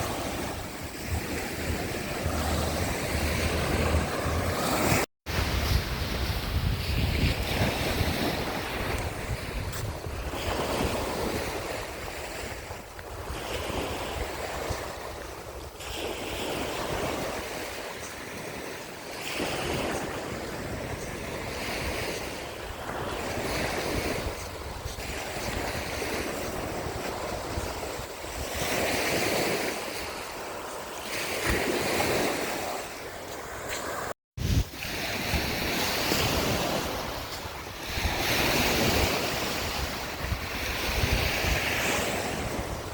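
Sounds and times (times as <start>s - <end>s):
sea surf breaking on shore: 0.0s - 42.9s
wind buffeting microphone: 0.0s - 42.9s.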